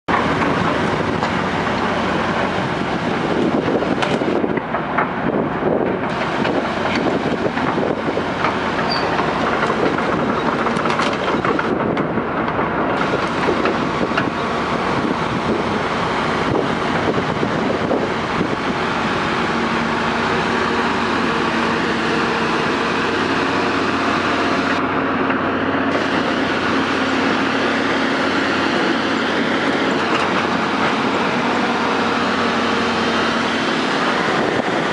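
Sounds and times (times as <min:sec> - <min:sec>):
diesel earthmoving machines running: 0:00.0 - 0:34.9
steel crawler tracks clanking: 0:00.1 - 0:34.9.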